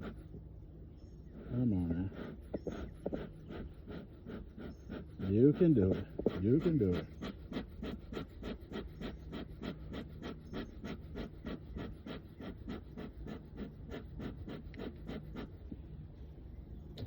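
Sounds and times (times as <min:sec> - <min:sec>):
bellows puffing air: 0:00.0 - 0:00.4, 0:01.3 - 0:15.6.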